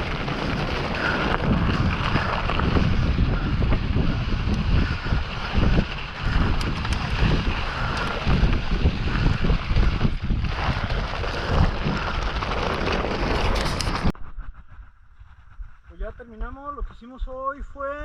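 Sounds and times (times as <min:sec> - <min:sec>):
wind buffeting microphone: 0:00.0 - 0:14.5
bike rumbling on rough trail: 0:00.0 - 0:16.1.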